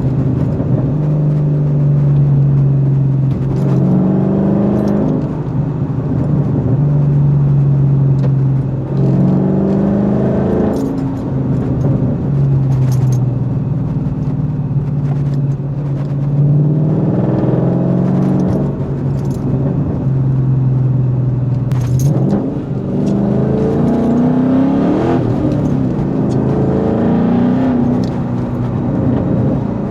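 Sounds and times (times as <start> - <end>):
car exhaust drone while driving: 0.0 - 29.9.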